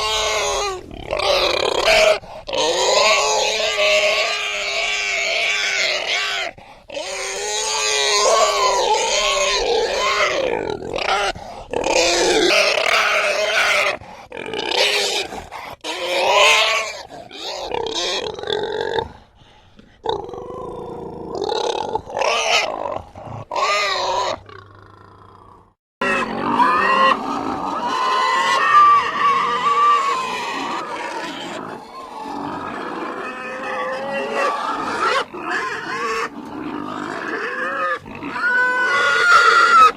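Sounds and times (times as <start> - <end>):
pigs squealing: 0.0 - 19.0, 20.0 - 39.9.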